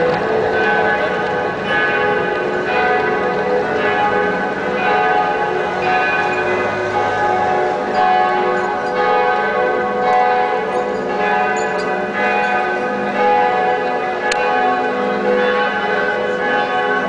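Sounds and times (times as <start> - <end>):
church bells pealing: 0.0 - 17.0.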